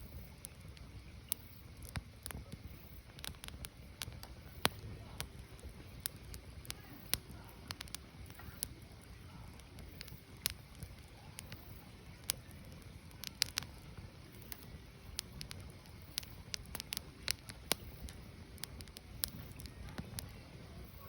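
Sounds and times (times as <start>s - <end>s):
fire crackling and popping: 0.0s - 21.0s
low rumble of fire: 0.0s - 21.0s.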